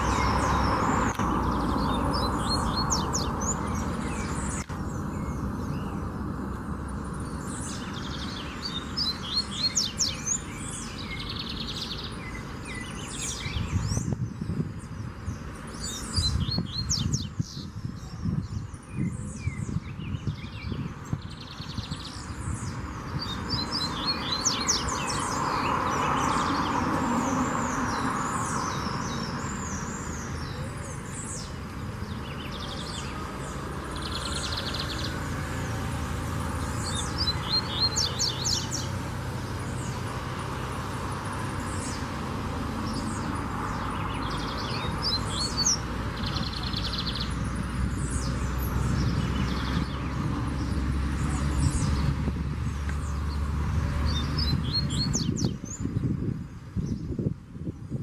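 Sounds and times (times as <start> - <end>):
bird chirping and trilling: 0.0 - 52.1, 54.0 - 56.1.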